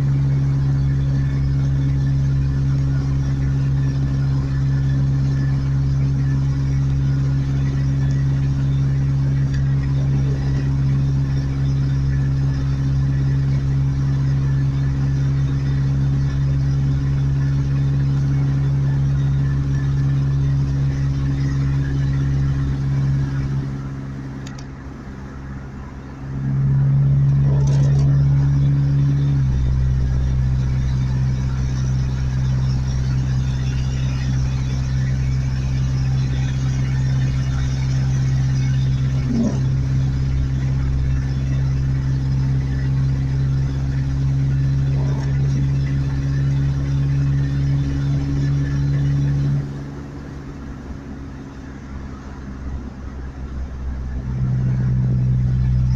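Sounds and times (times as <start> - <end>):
vehicle engine humming: 0.0 - 55.9.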